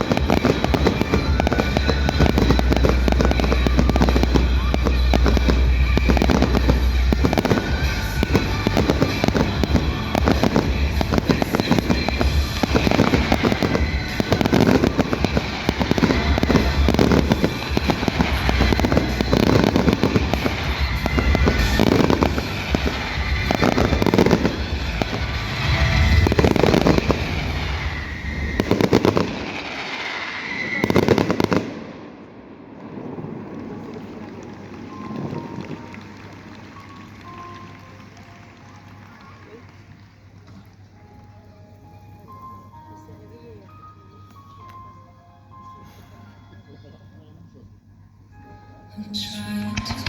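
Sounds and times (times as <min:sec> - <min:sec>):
music: 0:00.0 - 0:29.7, 0:30.8 - 0:31.6, 0:33.6 - 0:50.0
fireworks bursting and crackling: 0:00.0 - 0:41.4, 0:49.7 - 0:50.0.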